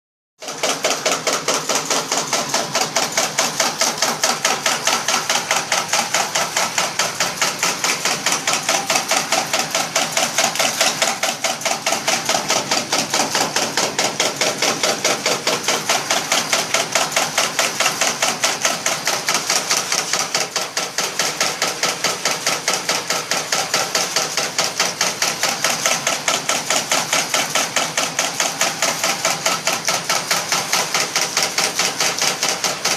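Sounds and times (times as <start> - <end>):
cutting machine clacking: 0.4 - 32.9.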